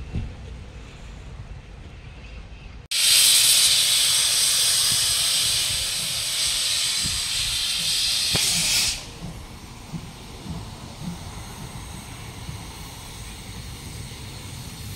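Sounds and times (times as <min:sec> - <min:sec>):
steam locomotive hissing steam: 0:02.9 - 0:14.9.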